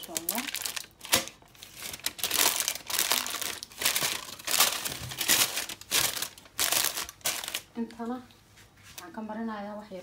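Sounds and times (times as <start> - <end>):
baking paper crinkling: 0.0 - 8.2.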